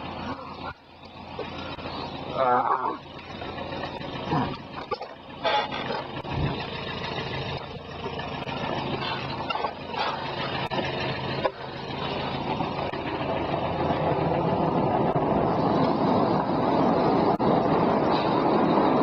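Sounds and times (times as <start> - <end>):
wheels on road: 0.0 - 19.0.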